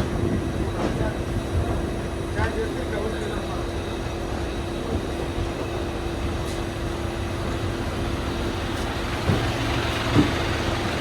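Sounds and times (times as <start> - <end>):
passenger train rumble: 0.0 - 11.0.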